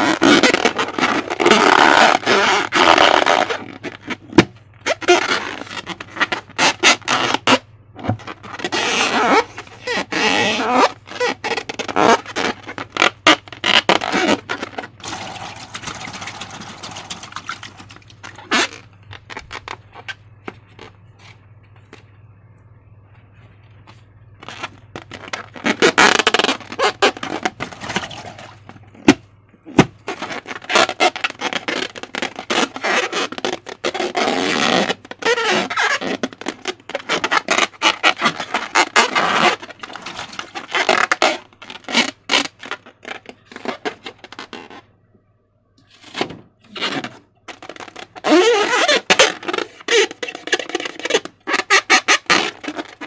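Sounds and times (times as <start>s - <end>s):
rubbery balloon squeaks: 0.0s - 21.4s, 24.4s - 44.9s, 45.9s - 53.0s.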